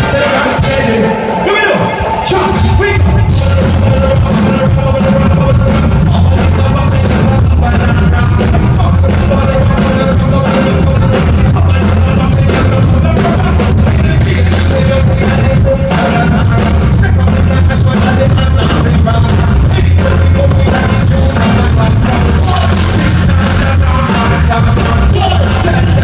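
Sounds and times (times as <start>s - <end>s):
drums: 0.0s - 26.0s
heavy bass: 0.0s - 26.0s
live band music: 0.0s - 26.0s.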